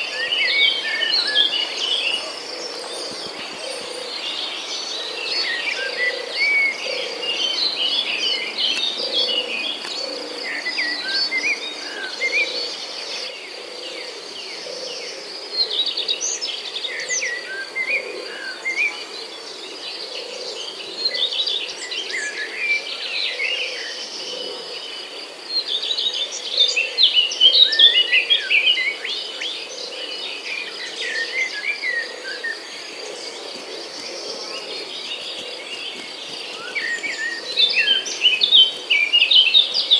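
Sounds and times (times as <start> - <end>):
birds chirping: 0.0 - 15.2, 15.8 - 39.9.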